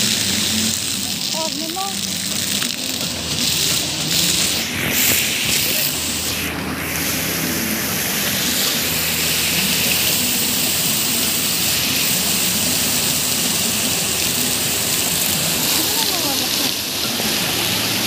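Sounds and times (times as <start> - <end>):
fountain jets splashing on paving: 0.0 - 18.0.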